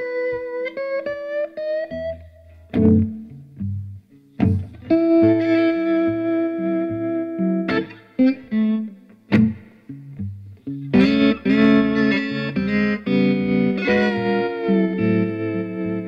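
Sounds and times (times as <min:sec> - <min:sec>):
electric guitar playing blues: 0:00.0 - 0:16.0.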